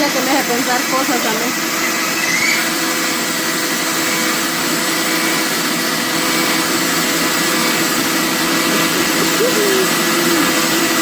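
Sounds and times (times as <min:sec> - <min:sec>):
electric meat grinder motor whirring: 0:00.0 - 0:11.0.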